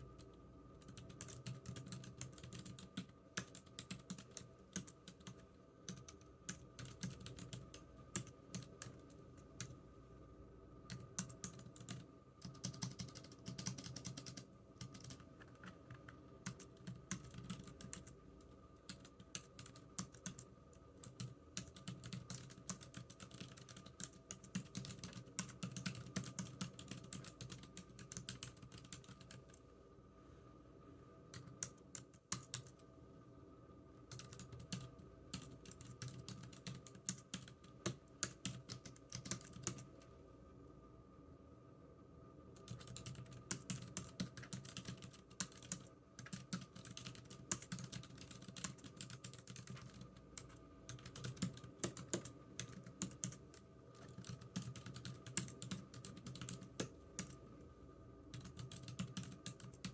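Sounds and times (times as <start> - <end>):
faint steady hum: 0.0 - 59.9
typing on computer keyboard: 0.1 - 9.8, 10.8 - 29.6, 31.3 - 32.8, 34.1 - 40.0, 42.6 - 57.4, 58.3 - 59.9.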